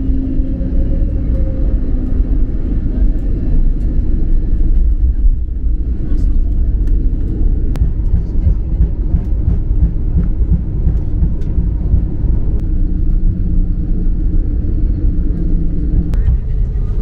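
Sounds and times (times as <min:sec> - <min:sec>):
low rumble of wheels and engines: 0:00.0 - 0:17.0.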